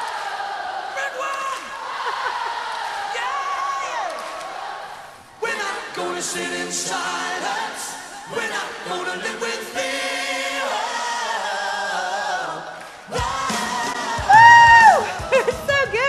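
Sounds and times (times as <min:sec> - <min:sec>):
group singing a cappella: 0:00.0 - 0:15.9.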